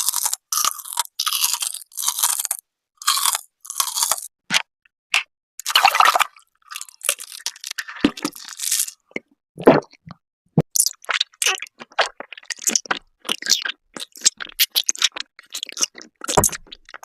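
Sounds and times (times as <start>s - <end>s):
person chewing jelly candy: 0.0s - 9.9s, 10.6s - 17.0s.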